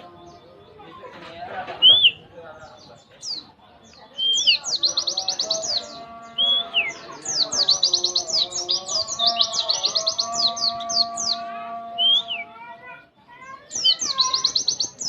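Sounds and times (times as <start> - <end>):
bird singing rapid chirps: 1.8 - 12.5, 13.6 - 15.0.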